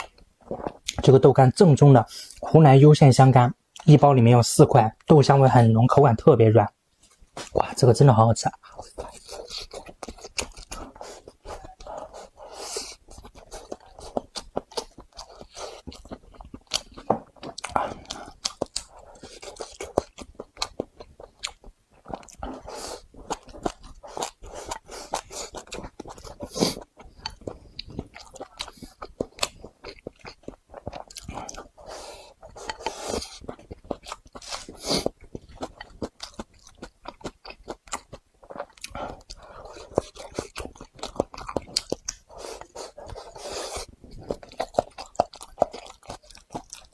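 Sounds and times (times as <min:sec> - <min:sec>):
chewing with lip smacks: 0:08.7 - 0:46.9.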